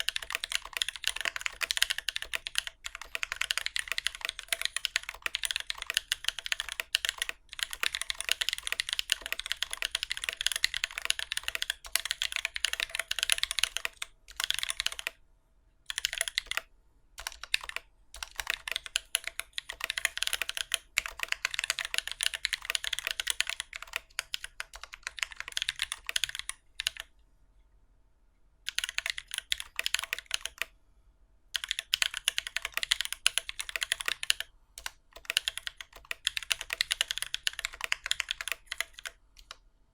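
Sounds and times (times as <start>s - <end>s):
mechanical keyboard typing: 0.0s - 15.2s, 15.9s - 27.1s, 28.7s - 30.7s, 31.6s - 39.6s.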